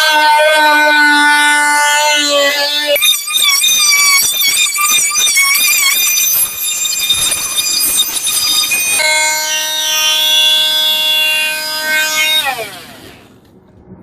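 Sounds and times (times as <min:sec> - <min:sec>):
oscillating multitool buzzing: 0:00.0 - 0:13.4.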